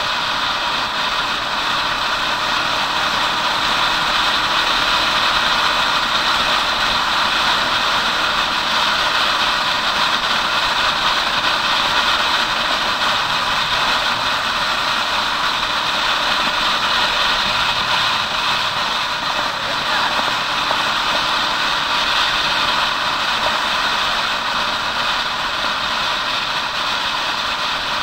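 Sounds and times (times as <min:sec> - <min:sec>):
motorcycle engine drone: 0:00.0 - 0:28.0
road noise: 0:00.0 - 0:28.0.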